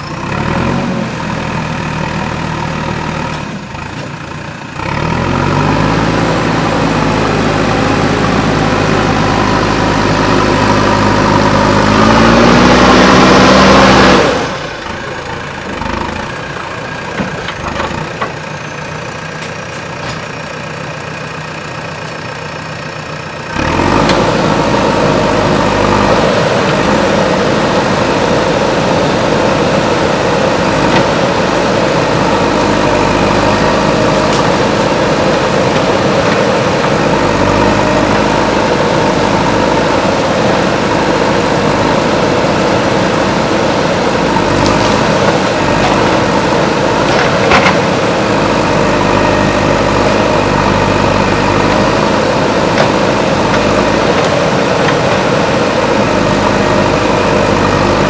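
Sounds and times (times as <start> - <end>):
backhoe diesel engine working: 0.0 - 58.0.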